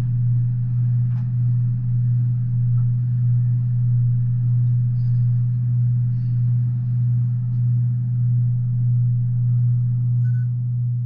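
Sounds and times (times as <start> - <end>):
muffled freight train hum: 0.0 - 11.0.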